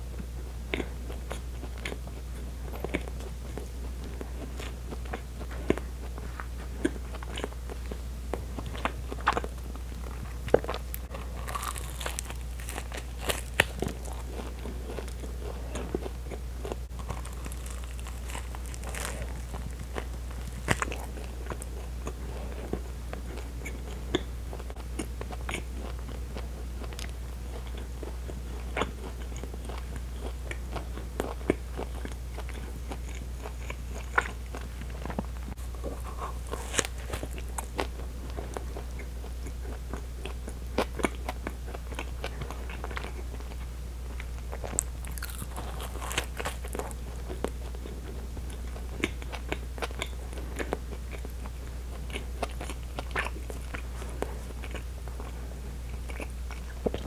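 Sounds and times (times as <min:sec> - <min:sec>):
chewing crunchy bread: 0:00.0 - 0:57.0
steady low hum: 0:00.0 - 0:57.0.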